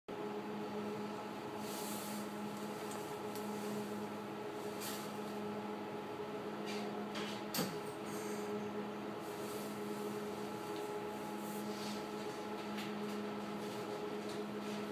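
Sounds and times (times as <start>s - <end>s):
train electrical hum: 0.1s - 14.9s.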